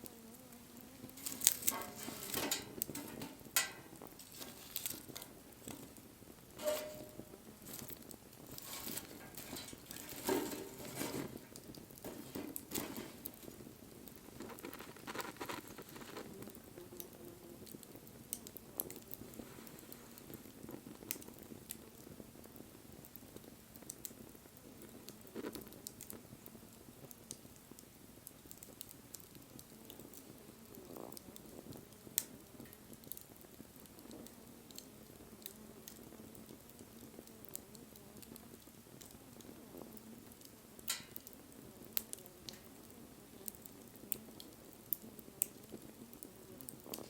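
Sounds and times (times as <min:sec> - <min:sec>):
fire crackling and popping: 0:00.0 - 0:47.0
low flame noise: 0:00.0 - 0:47.0.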